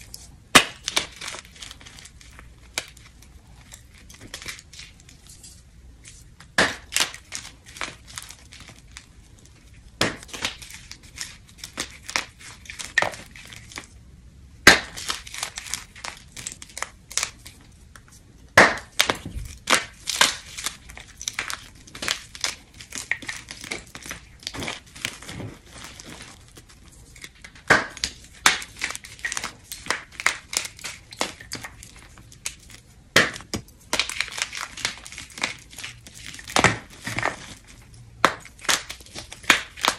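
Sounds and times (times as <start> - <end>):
chalk blocks crunching by hand: 0.0 - 14.0, 14.6 - 39.9.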